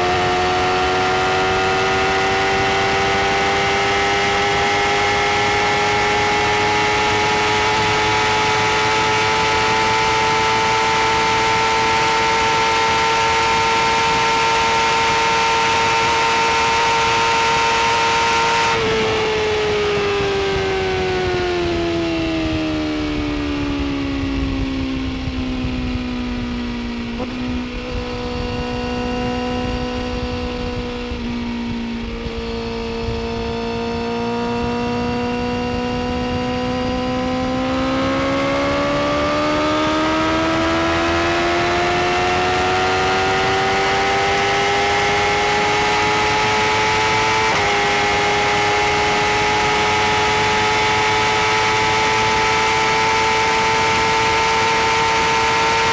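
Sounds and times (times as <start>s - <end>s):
motorcycle engine: 0.0s - 55.9s
rushing wind: 6.4s - 55.9s.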